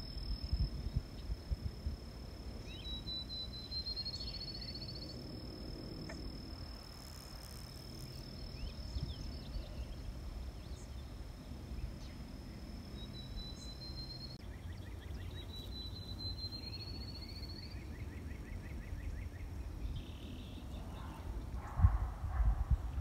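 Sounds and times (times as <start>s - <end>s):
constant low rumble: 0.0s - 23.0s
steady high whine: 0.0s - 23.0s.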